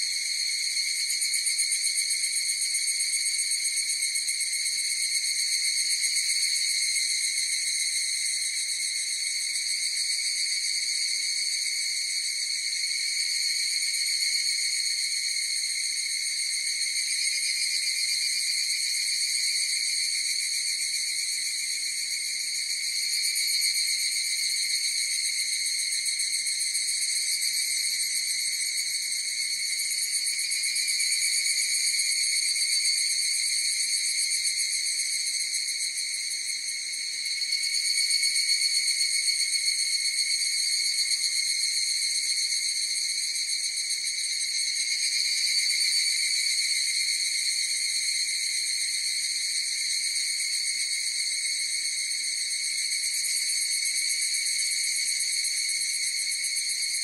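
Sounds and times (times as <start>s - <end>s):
cicada chorus trilling: 0.0s - 57.0s.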